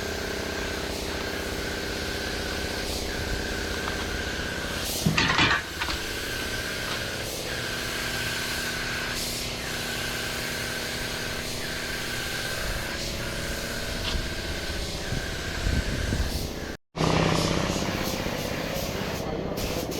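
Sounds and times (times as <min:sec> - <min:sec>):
machine humming and whining: 0:00.0 - 0:19.9.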